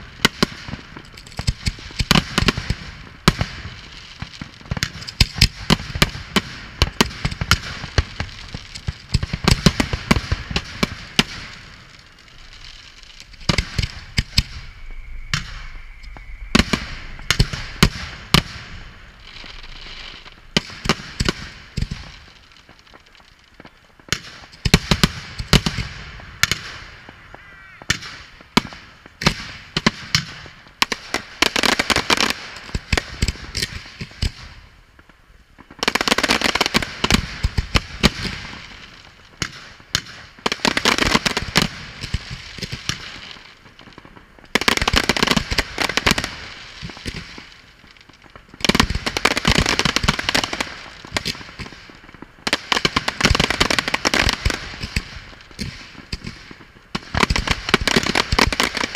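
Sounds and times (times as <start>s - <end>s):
fireworks bangs: 0.0s - 58.9s
rapid firework cracks: 0.0s - 58.9s.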